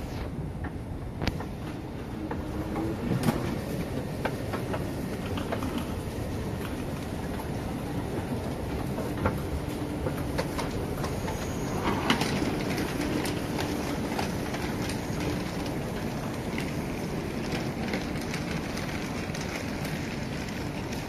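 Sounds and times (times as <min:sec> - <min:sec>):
station rumbling ambience: 0:00.0 - 0:21.0
suitcase wheels rolling on tiles: 0:01.4 - 0:21.0.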